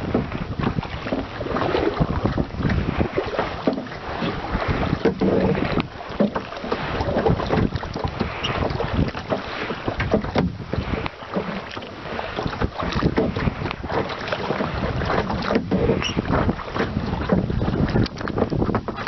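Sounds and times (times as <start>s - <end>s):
water lapping against kayak hull: 0.0s - 19.0s
wind buffeting microphone: 0.0s - 19.0s.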